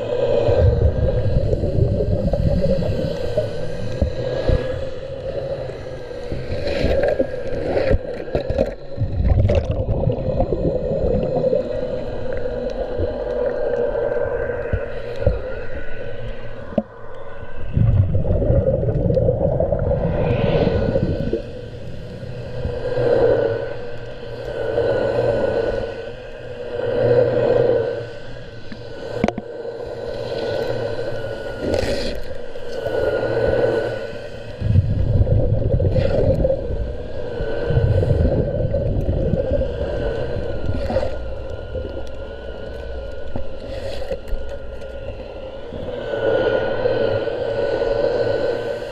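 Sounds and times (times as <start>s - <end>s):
low rumbling scrubbing: 0.0s - 48.9s
thin wavering whine: 0.0s - 48.9s
underwater motor hum: 0.0s - 48.9s.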